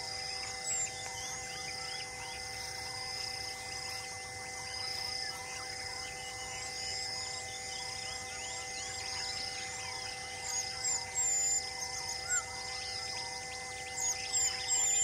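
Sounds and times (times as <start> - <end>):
birds calling: 0.0 - 15.0
insect-like chirping: 0.0 - 15.0.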